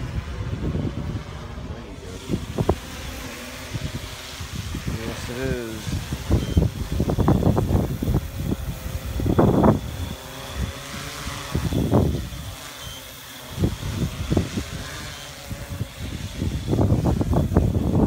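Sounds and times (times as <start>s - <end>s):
quadcopter propellers whining: 0.0s - 18.0s
wind buffeting microphone: 0.0s - 18.0s.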